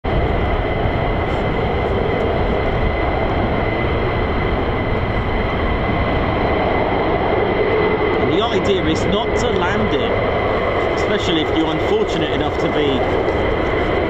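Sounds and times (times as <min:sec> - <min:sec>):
distant jet engine roar overhead: 0:00.0 - 0:14.0
thin high whine: 0:00.1 - 0:14.0.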